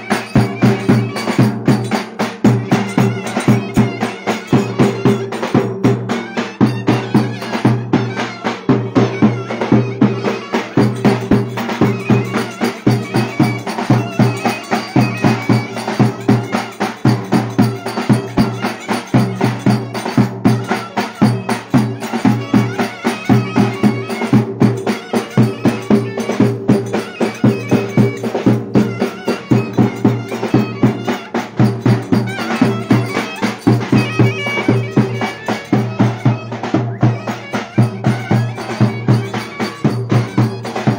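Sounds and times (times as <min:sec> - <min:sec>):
driving drum beat: 0:00.0 - 0:40.9
reedy wind instrument melody: 0:00.0 - 0:40.9.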